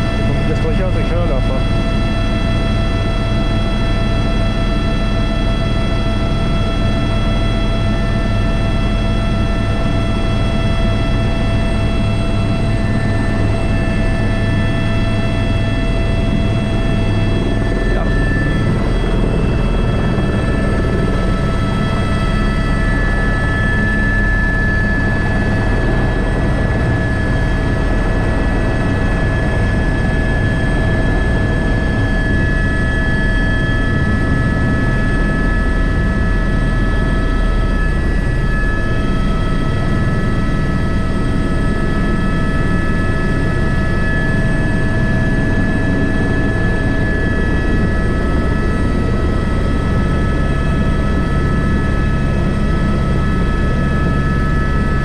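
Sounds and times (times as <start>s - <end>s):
helicopter in flight: 0.0s - 55.0s.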